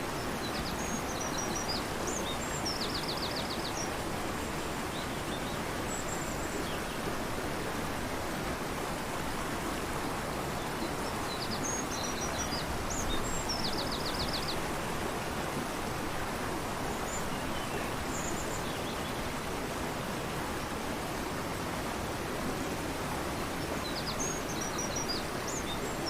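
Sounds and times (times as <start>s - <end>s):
fast-flowing river rushing: 0.0s - 26.0s.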